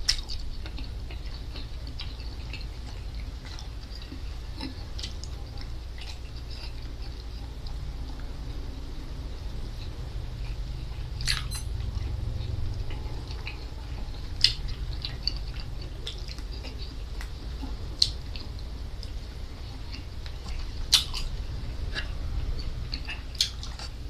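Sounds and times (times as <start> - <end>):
wet chewing with crackly snaps: 0.0 - 8.6, 9.4 - 24.0
low hum: 0.0 - 24.0.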